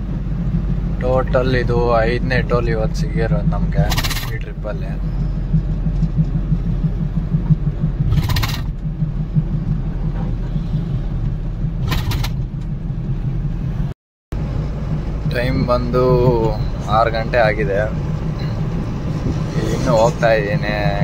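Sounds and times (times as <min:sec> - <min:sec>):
road noise: 0:00.0 - 0:21.0
truck engine droning: 0:00.0 - 0:21.0.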